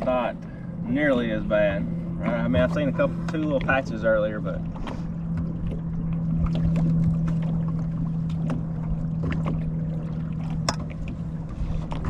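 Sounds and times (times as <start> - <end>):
electric trolling motor hum: 0.0 - 12.0
wind rumbling on microphone: 0.0 - 12.0.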